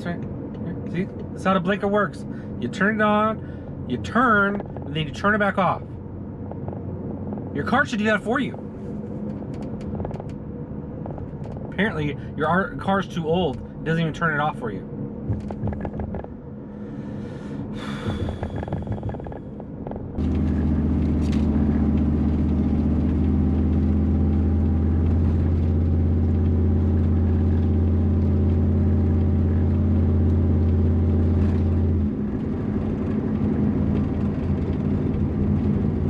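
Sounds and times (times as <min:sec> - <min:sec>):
car engine and road drone: 0:00.0 - 0:36.0.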